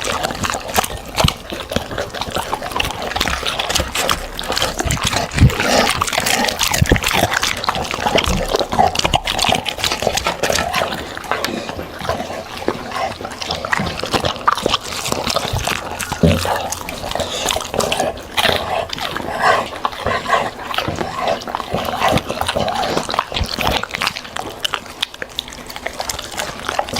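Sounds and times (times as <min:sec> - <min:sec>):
dog chewing and crunching: 0:00.0 - 0:26.9.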